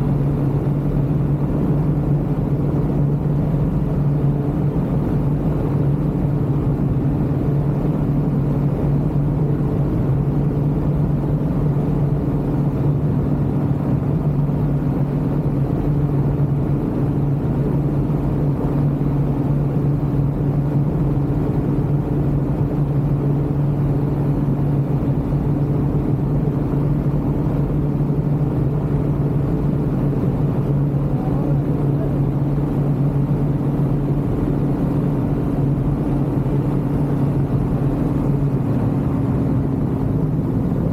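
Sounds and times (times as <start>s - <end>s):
light aircraft engine droning: 0.0s - 40.9s
low rumble: 0.0s - 40.9s.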